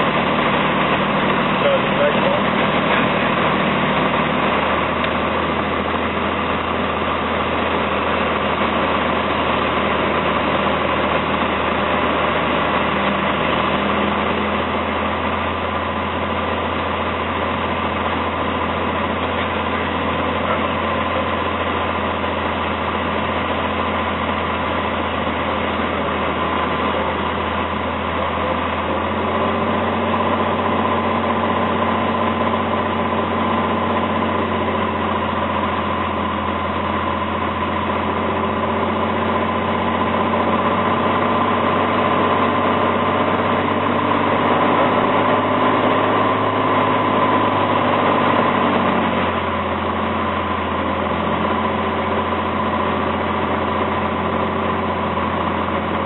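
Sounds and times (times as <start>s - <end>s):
aircraft engine and propeller droning: 0.0s - 56.0s.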